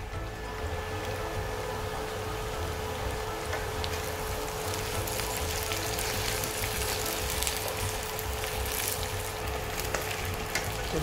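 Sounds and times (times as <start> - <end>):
food sizzling in oil in a wok: 0.0 - 11.0
steady hum: 0.0 - 11.0.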